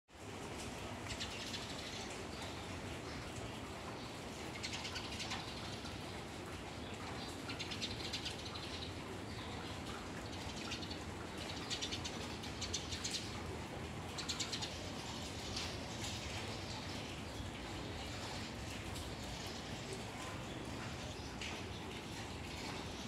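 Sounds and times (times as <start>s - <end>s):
rain hiss: 0.1s - 23.0s
trickling water: 0.1s - 23.0s
small birds chirping: 1.0s - 23.0s.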